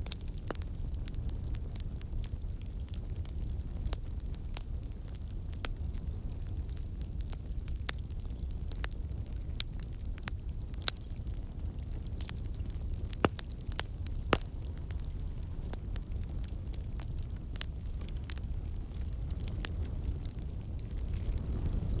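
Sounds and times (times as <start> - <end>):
fire crackling and popping: 0.0 - 22.0
fire flames rumbling: 0.0 - 22.0.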